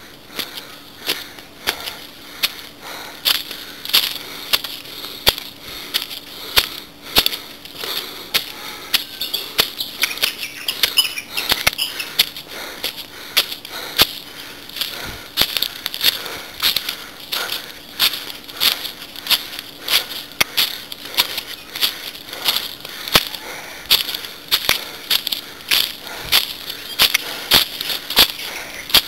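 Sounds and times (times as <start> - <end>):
footsteps on stone and dry leaves: 0.1 - 29.0.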